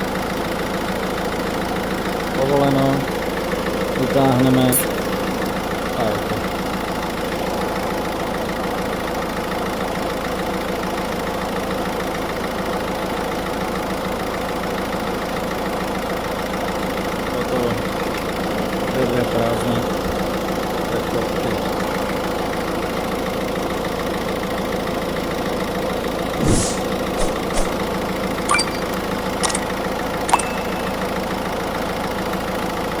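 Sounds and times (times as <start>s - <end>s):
car engine idling: 0.0s - 29.4s, 30.0s - 33.0s.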